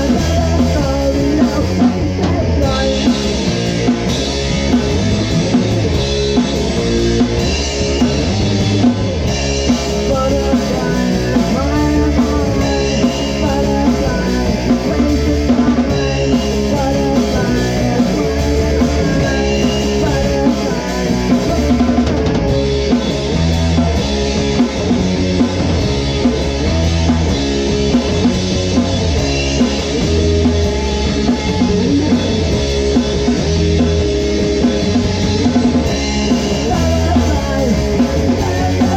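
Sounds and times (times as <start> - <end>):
drum kit steady beat: 0.0 - 38.9
rock song: 0.0 - 38.9.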